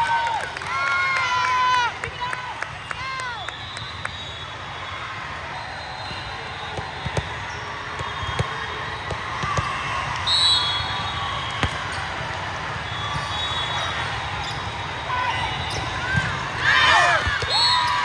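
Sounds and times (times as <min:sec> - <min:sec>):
echoing murmur of a gym: 0:00.0 - 0:18.0.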